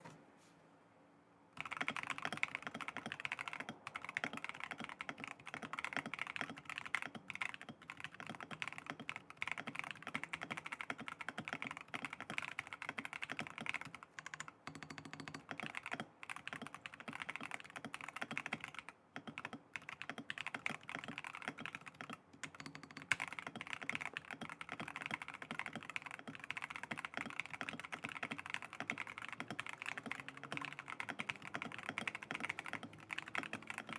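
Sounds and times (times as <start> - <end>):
fast typing on mechanical keyboard: 1.6 - 33.9.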